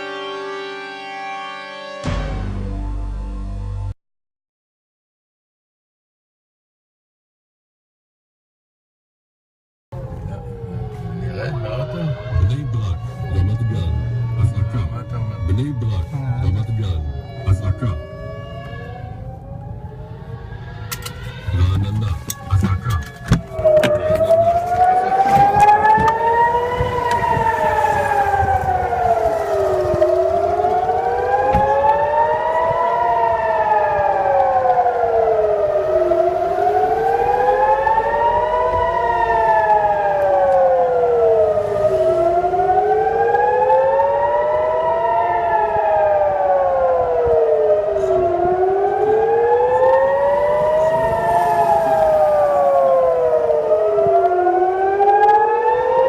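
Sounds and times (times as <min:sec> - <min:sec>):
air-raid siren wailing: 0:00.0 - 0:03.2, 0:10.0 - 0:56.0.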